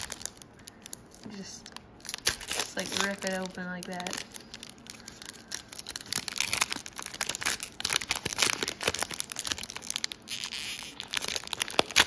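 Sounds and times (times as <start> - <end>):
foil wrapper crackling: 0.0 - 12.0.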